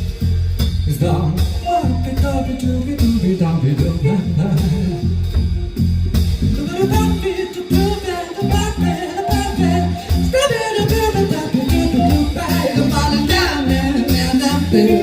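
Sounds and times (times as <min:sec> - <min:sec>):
bass: 0:00.0 - 0:15.0
guitar: 0:00.0 - 0:15.0.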